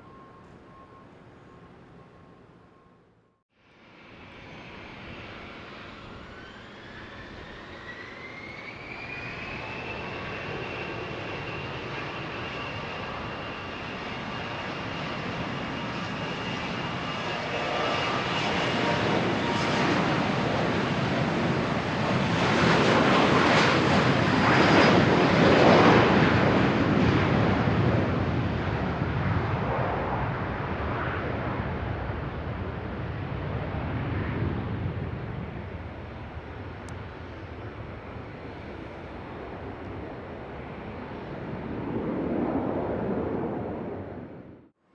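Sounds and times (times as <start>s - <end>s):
jet engines spooling up with whine: 0.0s - 44.7s.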